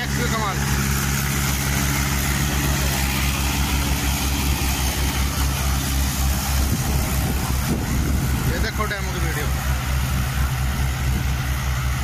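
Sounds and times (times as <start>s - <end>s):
rotavators churning soil: 0.0s - 12.0s
tractor diesel engines droning: 0.0s - 12.0s.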